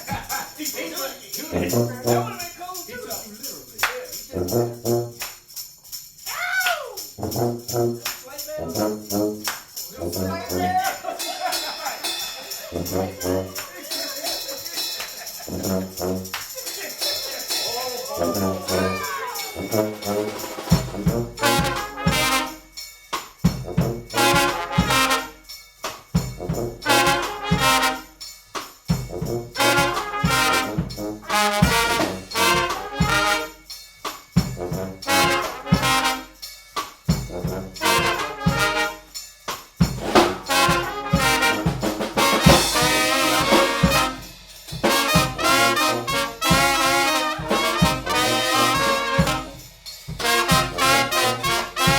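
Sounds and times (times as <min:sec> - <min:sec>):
drum beat: 0:00.0 - 0:05.2, 0:07.6 - 0:51.9
brass band playing: 0:01.4 - 0:03.2, 0:04.3 - 0:05.4, 0:07.1 - 0:16.7, 0:17.4 - 0:22.8, 0:23.5 - 0:25.5, 0:26.2 - 0:28.3, 0:28.9 - 0:33.8, 0:34.4 - 0:36.5, 0:37.1 - 0:39.2, 0:39.8 - 0:51.9.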